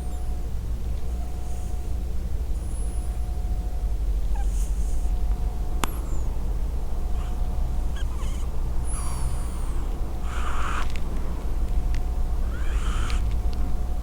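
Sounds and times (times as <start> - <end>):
cat snoring: 0.0 - 14.0.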